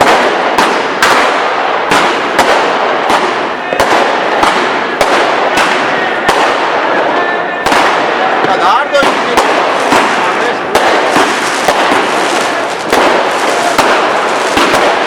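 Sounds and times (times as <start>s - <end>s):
crackle of small explosions: 0.0s - 15.0s
firework sharp bangs: 0.0s - 15.0s.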